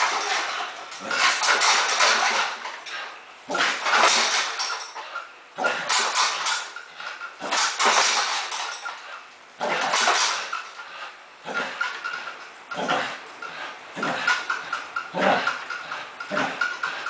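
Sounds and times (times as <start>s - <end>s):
home gym clattering and rattling: 0.0s - 17.0s.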